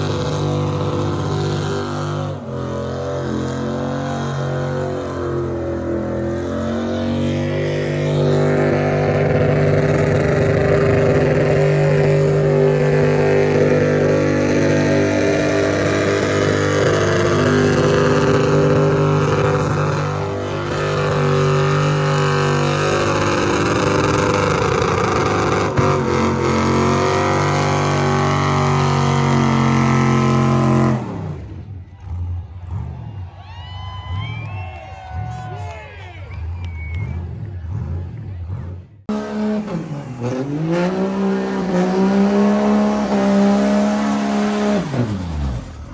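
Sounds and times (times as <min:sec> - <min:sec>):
engine revving during burnout: 0:00.0 - 0:33.3, 0:36.4 - 0:45.9.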